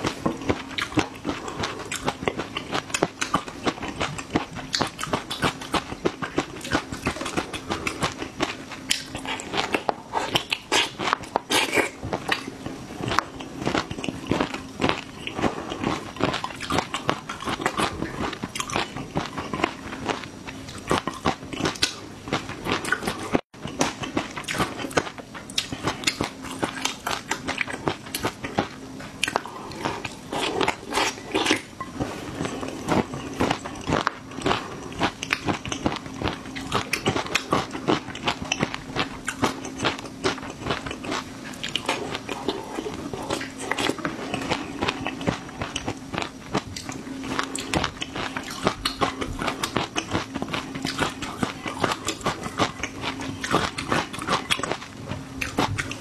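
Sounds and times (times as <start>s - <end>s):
chewing crunchy food: 0.0s - 56.0s
steady low hum: 0.0s - 56.0s.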